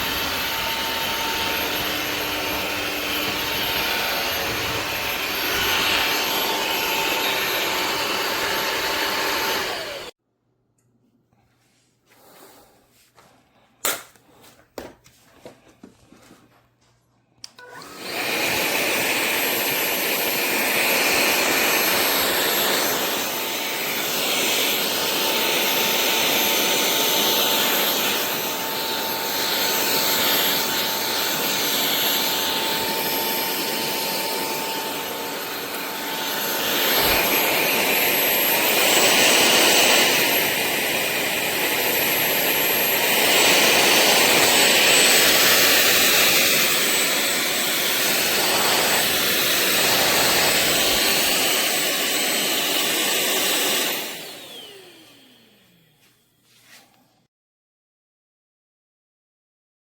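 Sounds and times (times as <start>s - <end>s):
stick vacuum cleaner running: 0.0s - 10.2s, 17.4s - 57.0s.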